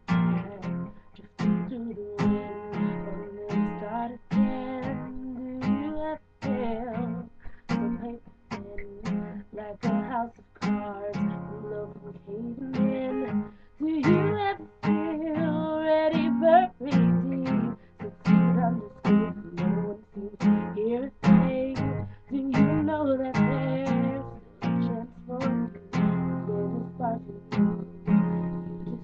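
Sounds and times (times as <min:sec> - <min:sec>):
acoustic guitar strumming: 0:00.0 - 0:29.0
woman singing: 0:00.1 - 0:29.0.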